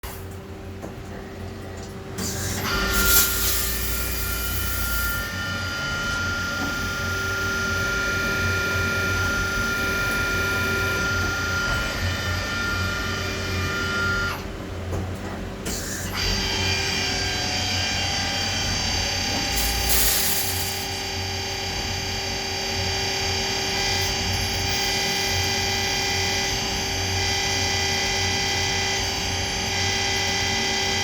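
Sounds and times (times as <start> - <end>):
lathe machining whine: 2.2 - 14.9, 15.6 - 31.0.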